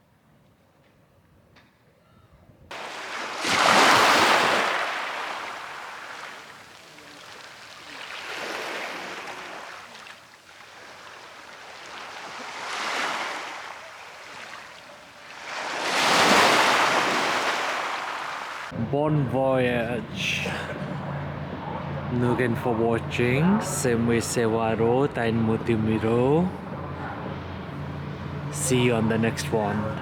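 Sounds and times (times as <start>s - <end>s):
sea waves washing in: 2.7s - 30.0s.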